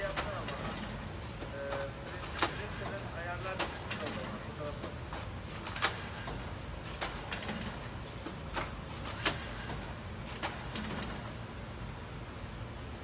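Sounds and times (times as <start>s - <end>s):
machine parts clacking: 0.0s - 11.5s
steady low hum: 0.0s - 13.0s.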